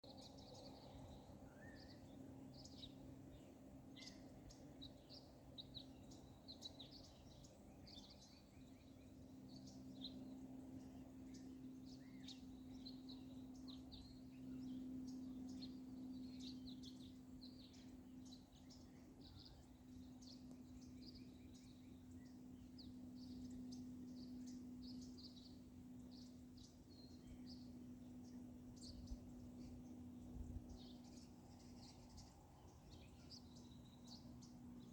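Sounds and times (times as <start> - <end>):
small birds chirping: 0.0 - 34.9
steady low hum: 0.0 - 34.9.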